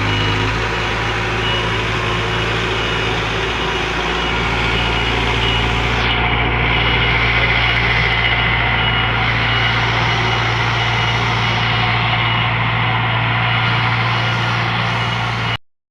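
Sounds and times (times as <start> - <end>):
diesel engine droning: 0.0 - 15.6.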